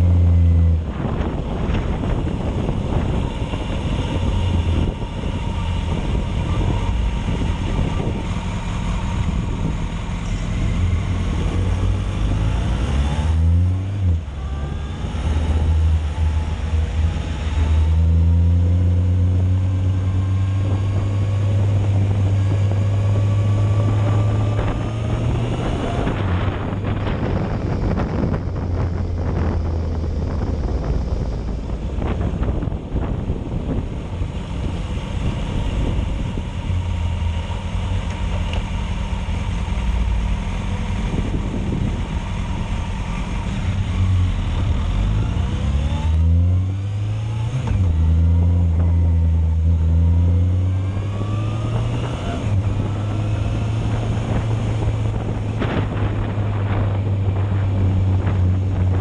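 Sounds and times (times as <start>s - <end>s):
motorcycle engine accelerating: 0.0s - 59.0s
wind buffeting microphone: 0.0s - 59.0s.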